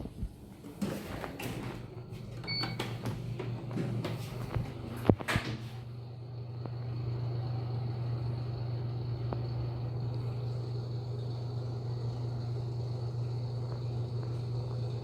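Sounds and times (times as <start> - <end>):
low hum with high whine: 0.0 - 15.0.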